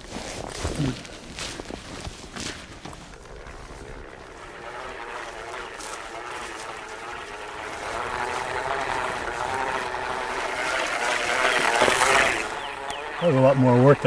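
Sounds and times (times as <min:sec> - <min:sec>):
footsteps swishing through tall grass: 0:00.0 - 0:12.7
seed spreader gears whirring: 0:02.4 - 0:14.0.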